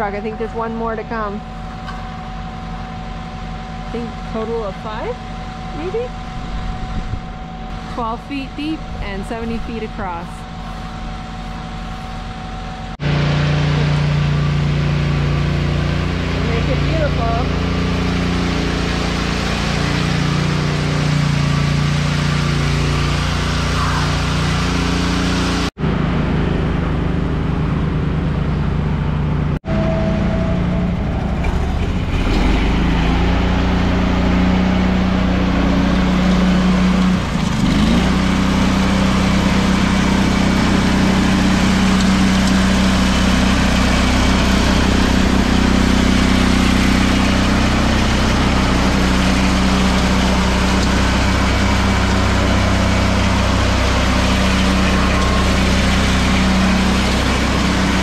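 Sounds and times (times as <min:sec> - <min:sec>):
power trowel engine droning: 0:00.0 - 0:58.0.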